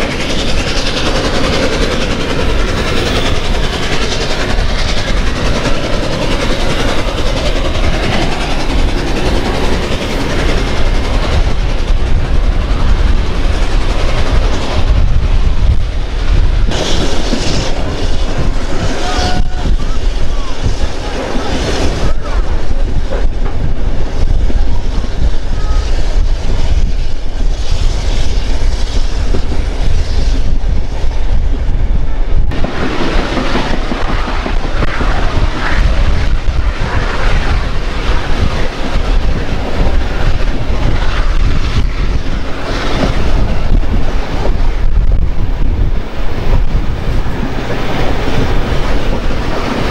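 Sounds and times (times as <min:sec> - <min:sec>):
train carriages rumbling on rails: 0:00.0 - 0:49.9
wind buffeting microphone: 0:00.0 - 0:49.9.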